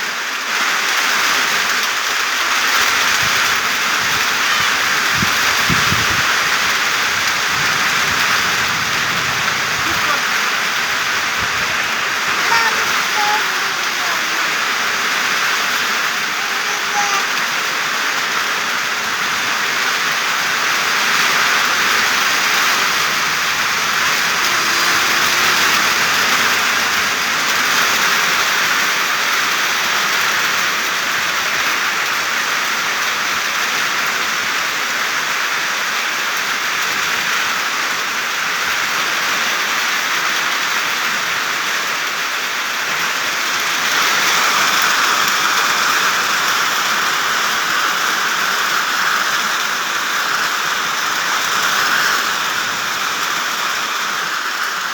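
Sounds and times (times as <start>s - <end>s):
rain pattering on leaves: 0.0s - 54.9s.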